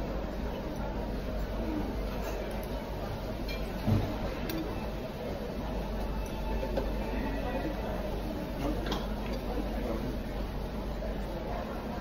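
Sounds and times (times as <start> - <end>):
restaurant background noise: 0.0 - 12.0.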